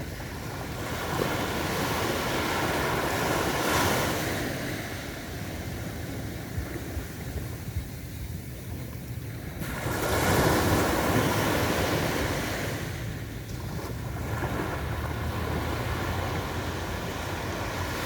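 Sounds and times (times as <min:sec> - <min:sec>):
low rumble of surf: 0:00.0 - 0:18.0
waves breaking on a beach: 0:00.0 - 0:18.0.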